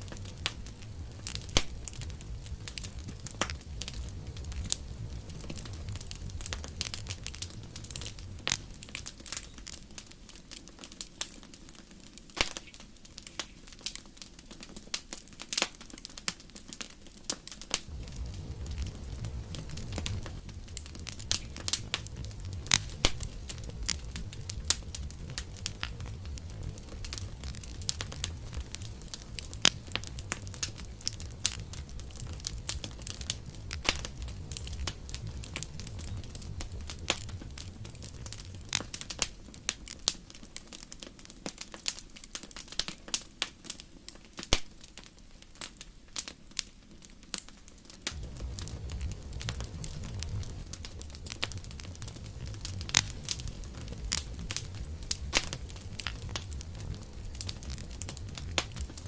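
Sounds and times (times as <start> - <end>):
campfire crackling: 0.0 - 59.0
low rumble of burning flames: 0.0 - 59.0.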